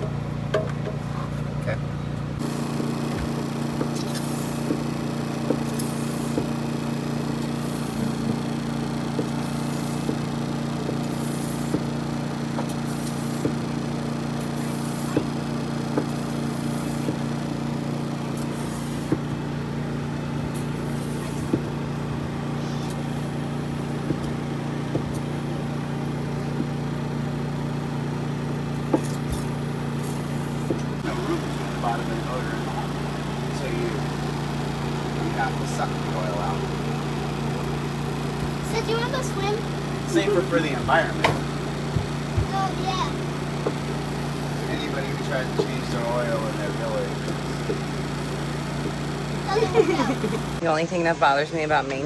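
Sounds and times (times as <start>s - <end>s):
motor humming two-toned: 1.6s - 51.7s.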